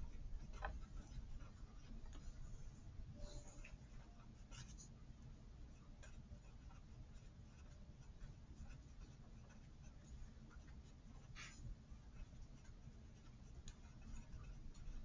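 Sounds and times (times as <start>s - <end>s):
marker scratching on paper: 0.1s - 4.9s, 6.0s - 15.0s.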